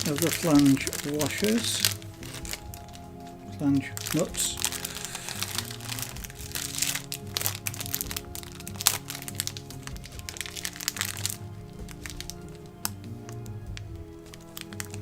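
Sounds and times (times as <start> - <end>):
background music: 0.0 - 15.0
plastic bag crinkling: 0.0 - 15.0.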